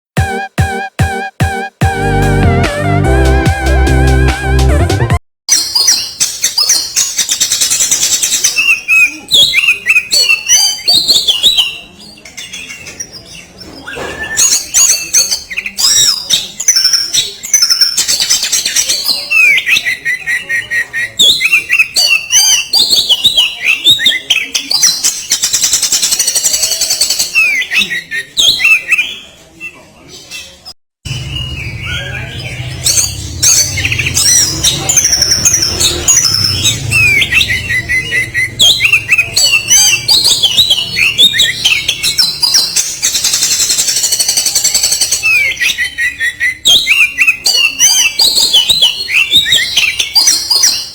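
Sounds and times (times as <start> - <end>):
songbird singing scratchy notes: 5.5 - 50.9.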